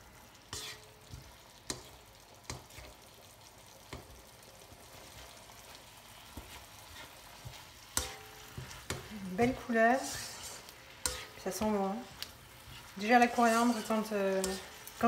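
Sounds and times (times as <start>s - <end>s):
meat sizzling in a wok: 0.0s - 15.0s
spatula scraping a pan: 0.2s - 3.2s, 4.9s - 15.0s.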